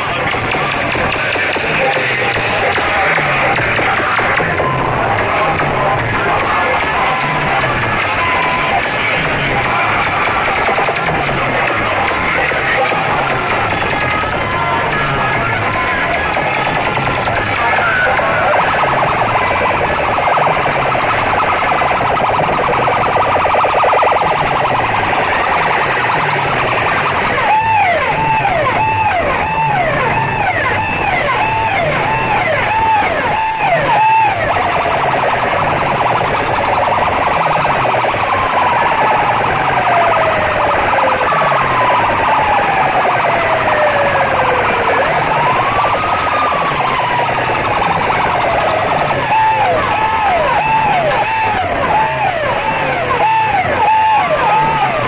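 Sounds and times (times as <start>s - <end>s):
pulsing bass beat: 0.0s - 55.0s
siren effects: 0.0s - 55.0s.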